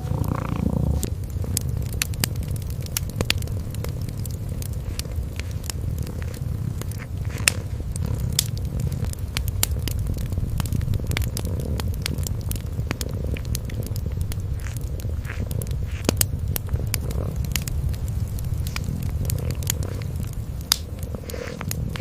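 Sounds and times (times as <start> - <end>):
kitten purring: 0.0 - 22.0
wood fire crackling: 0.0 - 22.0.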